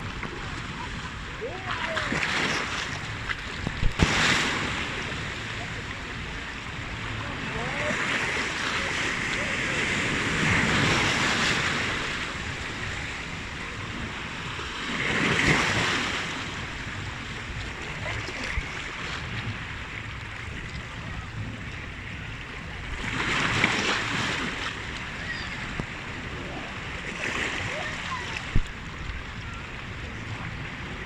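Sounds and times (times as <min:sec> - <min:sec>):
sea waves washing ashore: 0:00.0 - 0:31.0.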